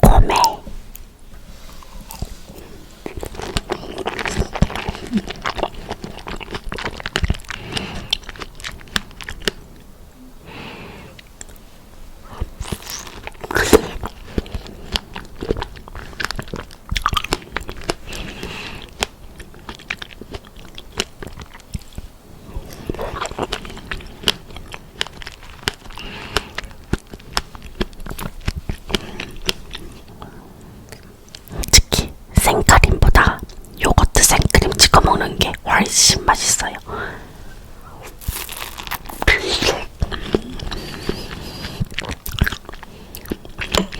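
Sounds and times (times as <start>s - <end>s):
person chewing strawberries: 0.0s - 1.0s, 1.6s - 43.9s.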